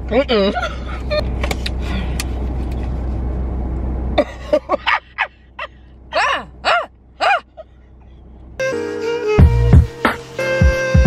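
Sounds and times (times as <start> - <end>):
car cabin rumble and hiss: 0.0 - 10.6.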